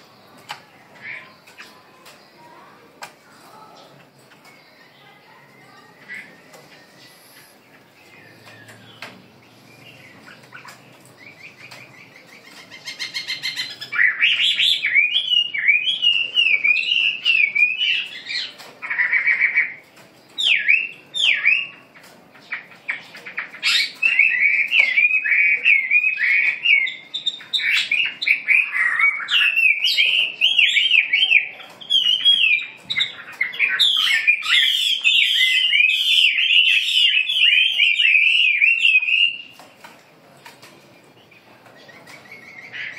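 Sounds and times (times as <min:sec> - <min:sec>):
songbirds chirping and warbling: 0:00.0 - 0:42.9.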